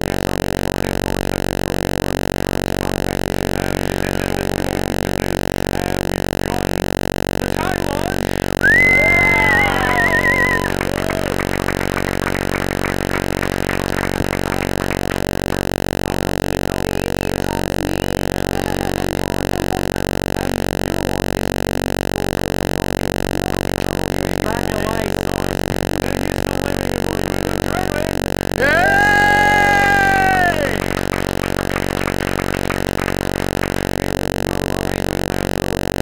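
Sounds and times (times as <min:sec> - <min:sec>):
loud steady buzzing drone: 0:00.0 - 0:18.7, 0:19.5 - 0:36.0.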